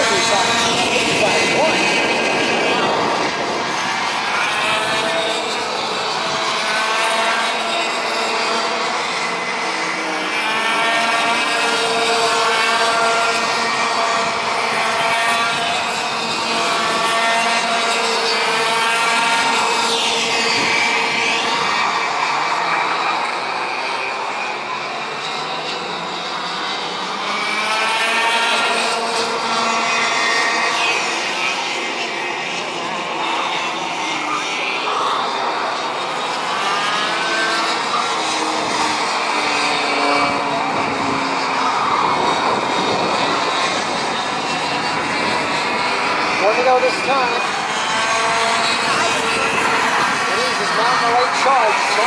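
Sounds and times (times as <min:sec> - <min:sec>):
racing kart engines: 0:00.0 - 0:52.0.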